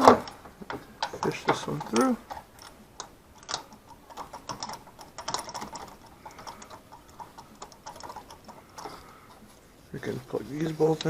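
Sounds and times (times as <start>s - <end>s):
metal hand tools clicking: 0.0s - 9.4s.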